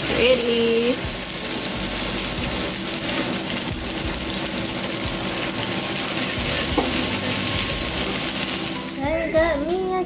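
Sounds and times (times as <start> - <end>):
meat sizzling on a grill plate: 0.0 - 10.0.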